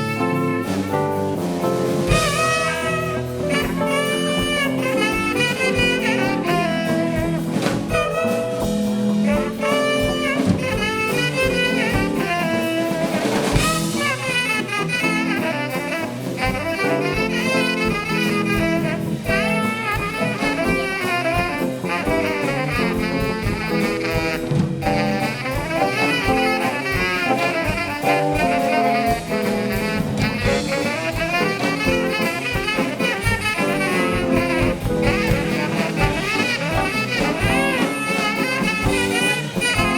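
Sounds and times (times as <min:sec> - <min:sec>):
drum kit beat: 0:00.0 - 0:39.9
saxophone and horns: 0:00.0 - 0:39.9.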